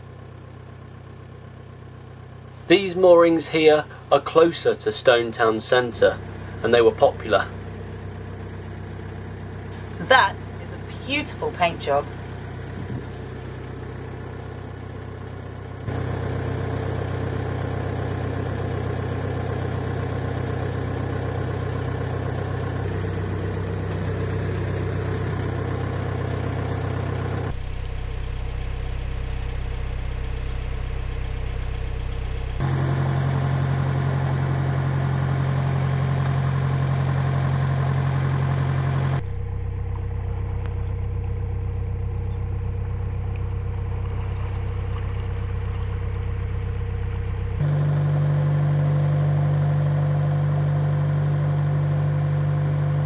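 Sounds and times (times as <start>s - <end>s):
boat diesel engine running: 0.0s - 53.0s.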